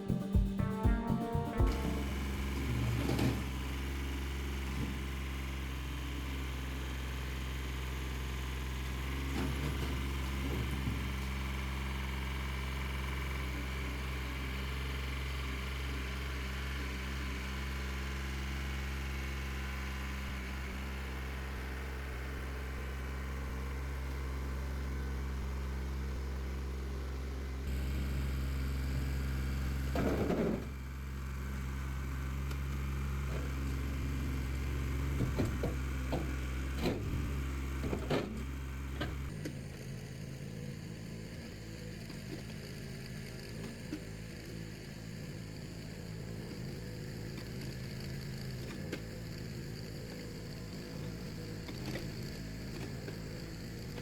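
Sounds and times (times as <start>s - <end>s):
small gas engine running: 1.7s - 54.0s.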